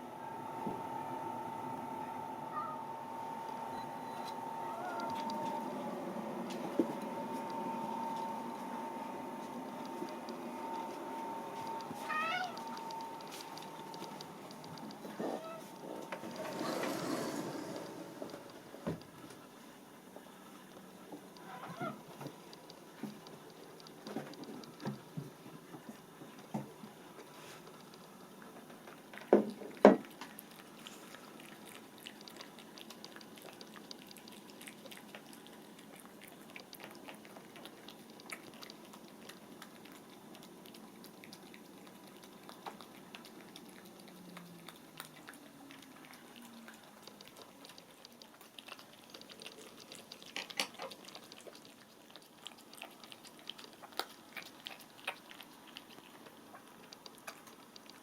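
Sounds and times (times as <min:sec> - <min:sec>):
cat licking and chewing: 0:01.8 - 0:58.0.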